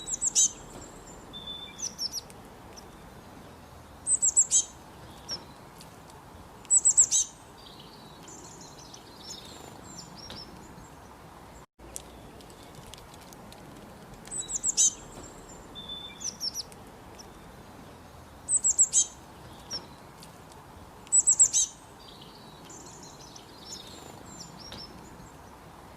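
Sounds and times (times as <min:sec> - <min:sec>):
small bird chirping: 0:00.0 - 0:11.2, 0:14.2 - 0:25.7
steady background hiss: 0:00.0 - 0:25.9.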